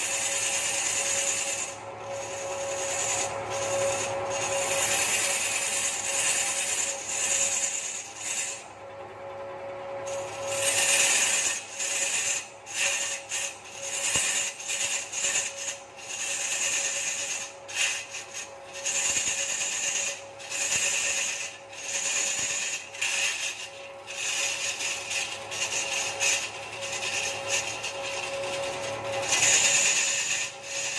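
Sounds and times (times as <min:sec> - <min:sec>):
lathe humming: 0:00.0 - 0:30.9
tool scraping spinning wood: 0:00.0 - 0:30.9.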